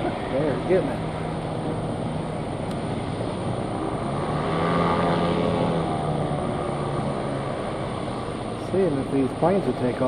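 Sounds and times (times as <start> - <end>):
engine drone: 0.0 - 10.0
ship noise: 0.0 - 10.0
wind: 0.0 - 10.0.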